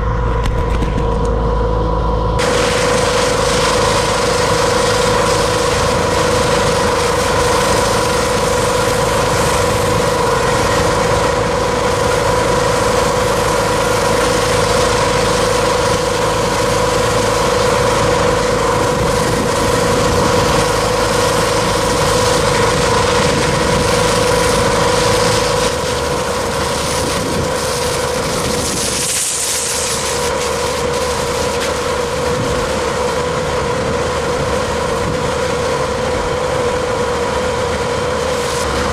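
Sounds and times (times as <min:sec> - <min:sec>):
engine and pump droning: 0:00.0 - 0:38.9
slurry spraying from hose: 0:02.4 - 0:38.9.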